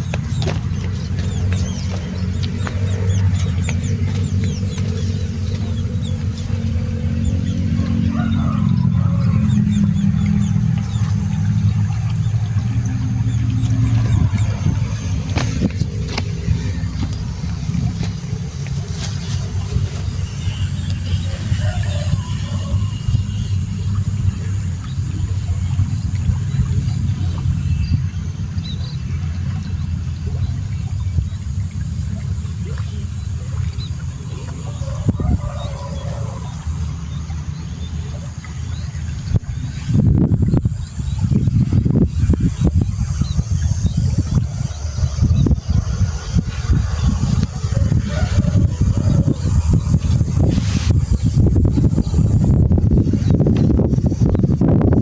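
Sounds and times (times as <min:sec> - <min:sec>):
birds chirping: 0:00.0 - 0:55.0
low engine hum: 0:00.0 - 0:55.0
steady low rumble: 0:00.0 - 0:55.0.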